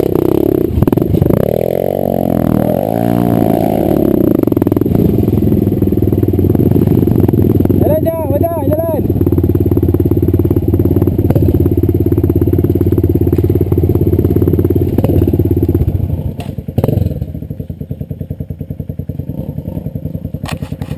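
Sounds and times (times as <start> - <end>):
dirt bike engine: 0.0 - 20.9.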